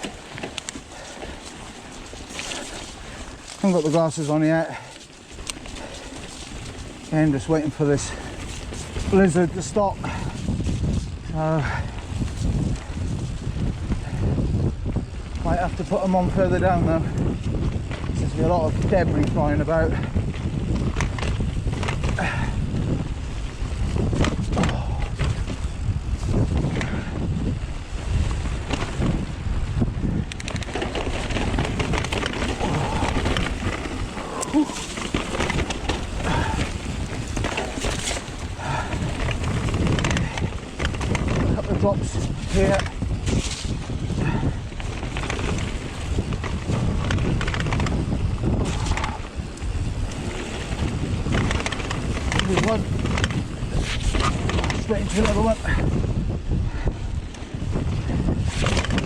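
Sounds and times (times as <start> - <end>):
mountain bike clattering on rocky trail: 0.0 - 59.0
wind buffeting microphone: 0.0 - 59.0.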